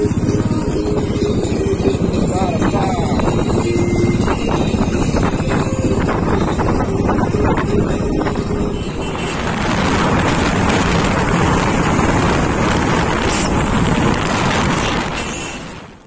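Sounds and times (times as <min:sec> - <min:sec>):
motorcycle engine rumble: 0:00.0 - 0:16.0
wind rushing over microphone: 0:00.0 - 0:16.0.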